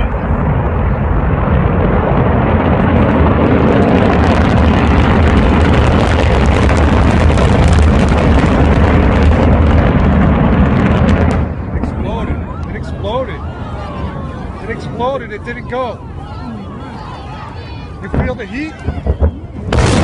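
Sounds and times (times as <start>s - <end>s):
rocket roar with crackling: 0.0s - 20.0s.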